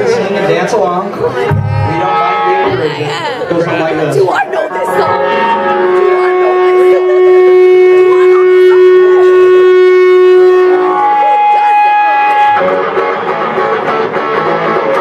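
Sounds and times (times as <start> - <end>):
guitar amplifier feedback tone: 1.3 - 3.9, 4.7 - 15.0.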